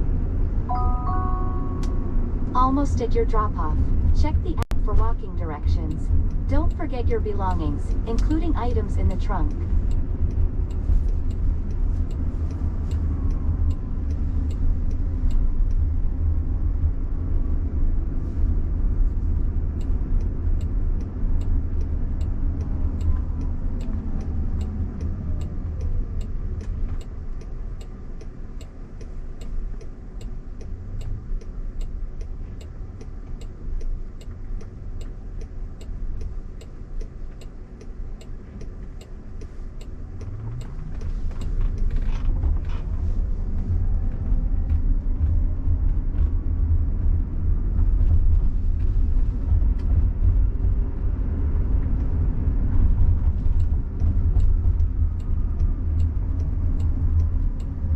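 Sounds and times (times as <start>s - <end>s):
road and tyre rumble in car: 0.0s - 57.9s
turn signal ticking: 0.1s - 57.9s.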